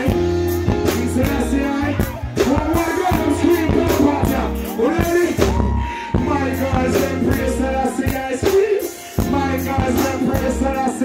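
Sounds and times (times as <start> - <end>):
live reggae band: 0.0 - 11.0
man singing into microphone: 0.0 - 11.0.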